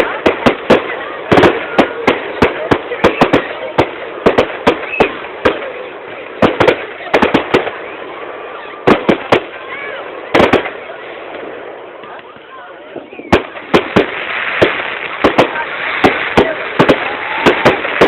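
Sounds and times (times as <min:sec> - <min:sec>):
crackling hiss: 0:00.0 - 0:18.0
firework bangs and cracks: 0:00.0 - 0:18.0.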